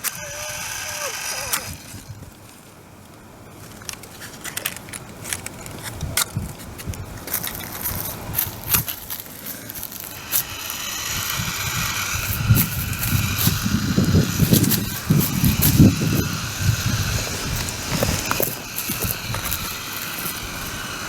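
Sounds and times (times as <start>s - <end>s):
campfire crackling: 1.3s - 21.0s.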